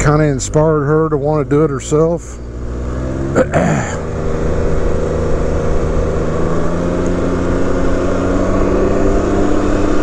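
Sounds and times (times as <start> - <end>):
three-wheeler engine accelerating: 0.0 - 10.0.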